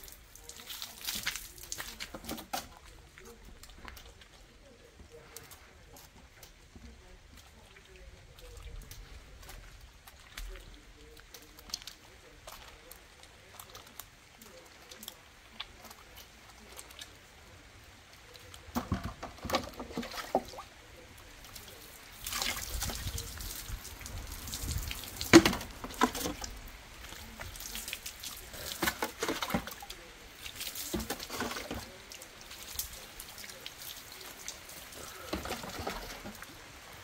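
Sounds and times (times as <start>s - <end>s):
water pouring and splashing: 0.0s - 37.0s.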